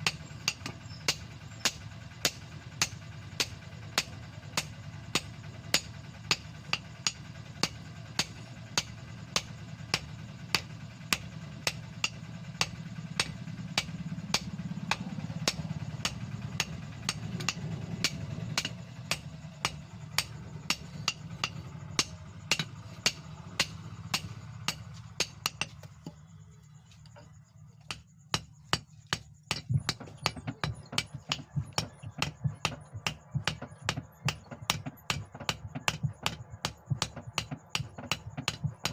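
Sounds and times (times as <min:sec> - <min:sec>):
hammer striking steel on anvil: 0:00.0 - 0:26.2, 0:27.8 - 0:38.9.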